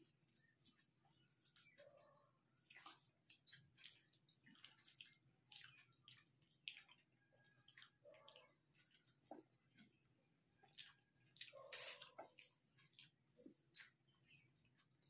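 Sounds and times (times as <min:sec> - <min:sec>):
wet chewing and mouth clicks: 0:00.3 - 0:14.9.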